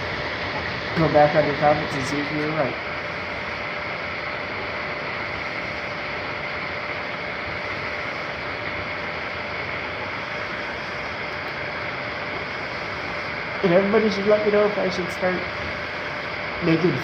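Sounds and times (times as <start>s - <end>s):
faint constant whine: 0.0s - 17.0s
printer fans whirring: 0.0s - 17.0s.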